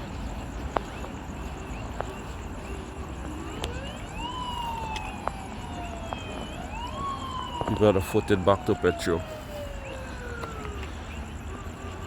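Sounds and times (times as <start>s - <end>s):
street noise: 0.0s - 12.0s
siren wailing: 1.5s - 12.0s.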